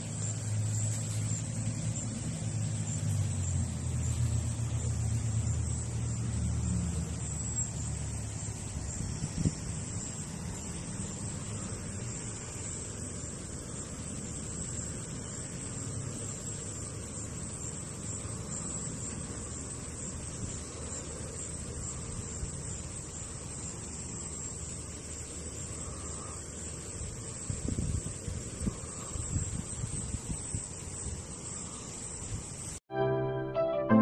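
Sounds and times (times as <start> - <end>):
insects trilling: 0.0 - 32.8.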